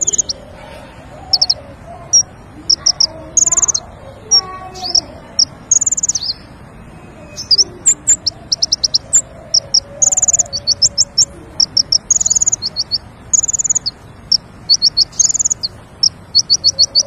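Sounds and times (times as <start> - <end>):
bird song with whistled chirps and trills: 0.0 - 0.5, 1.2 - 17.0.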